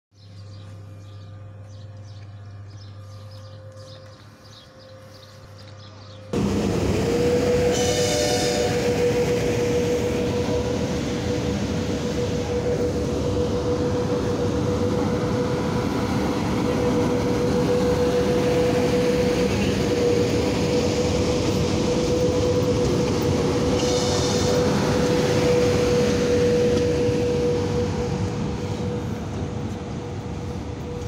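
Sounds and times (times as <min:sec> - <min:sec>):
electric locomotive whine: 0:00.2 - 0:31.0.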